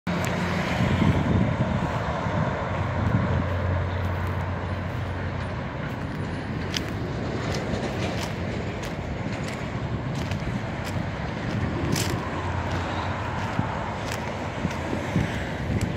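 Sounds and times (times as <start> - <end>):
road traffic rumble: 0.0 - 15.9
vehicle engine hum: 0.0 - 15.9.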